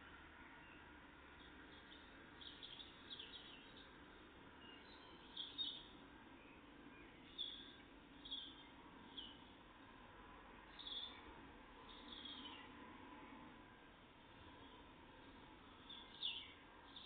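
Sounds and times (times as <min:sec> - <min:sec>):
faint background noise: 0:00.0 - 0:17.0
songbirds chirping: 0:00.0 - 0:17.0.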